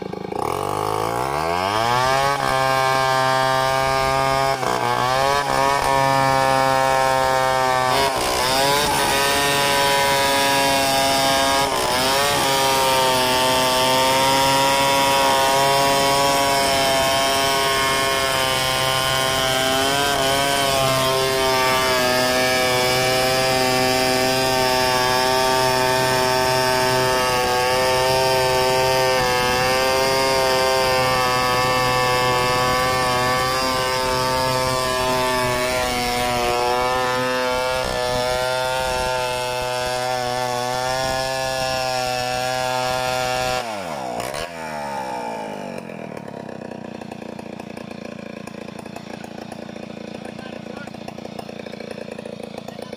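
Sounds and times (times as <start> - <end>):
chainsaw cutting log: 0.0 - 52.9.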